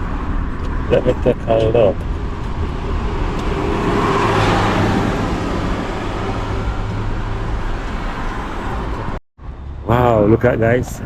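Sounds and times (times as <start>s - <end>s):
car engine and road hum: 0.0s - 11.0s
vehicle passing: 0.0s - 11.0s.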